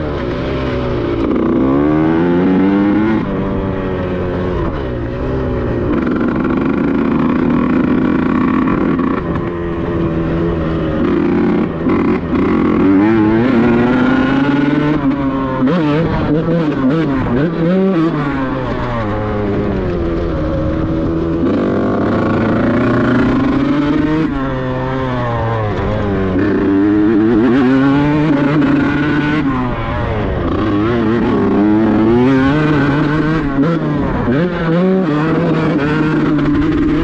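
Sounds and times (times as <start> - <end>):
two-stroke engine revving: 0.0 - 37.0.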